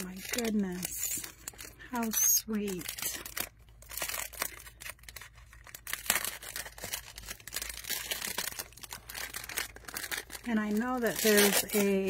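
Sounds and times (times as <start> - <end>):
plastic wrap tearing and crinkling: 0.0 - 12.0.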